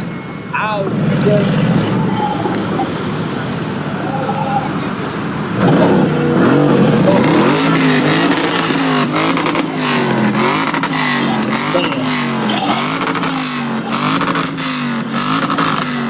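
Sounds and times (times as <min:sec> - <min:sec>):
car engine revving: 0:00.0 - 0:16.0
other car engines running: 0:00.0 - 0:16.0.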